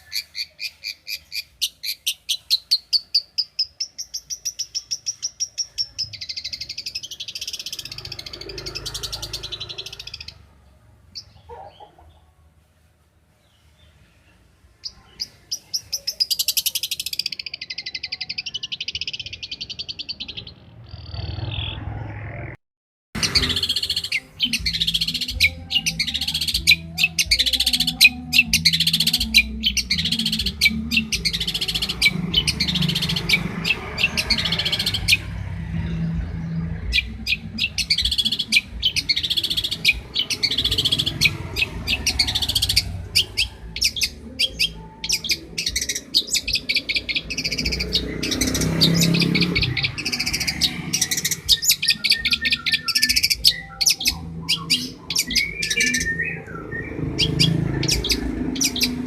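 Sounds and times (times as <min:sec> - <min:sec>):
bird chirping song: 0:00.0 - 0:12.6, 0:13.3 - 0:22.2, 0:23.2 - 0:59.0.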